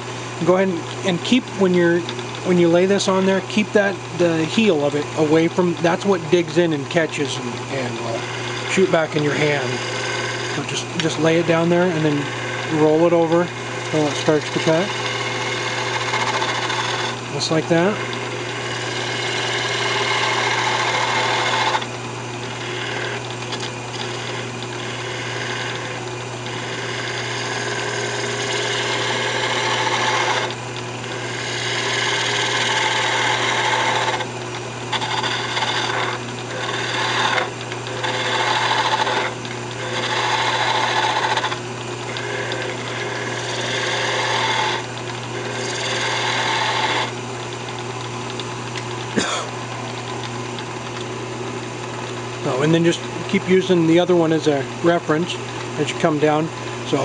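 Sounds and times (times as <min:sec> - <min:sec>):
chisel cutting wood: 0:00.0 - 0:51.0, 0:52.0 - 0:57.0
lathe motor humming: 0:00.0 - 0:57.0.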